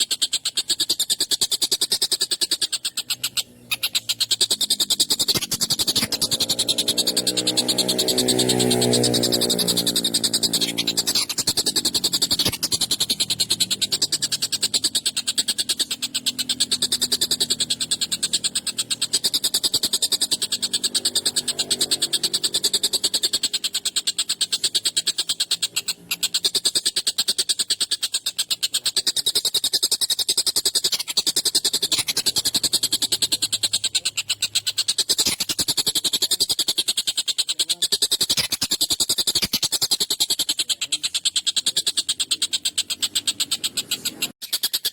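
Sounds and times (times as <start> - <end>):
kingfisher harsh chattering call: 0.0 - 44.9.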